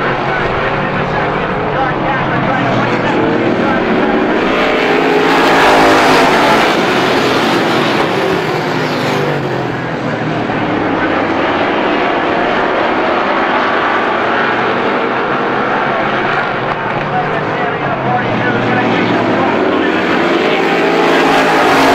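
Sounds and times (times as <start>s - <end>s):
race car engines droning: 0.0s - 21.9s.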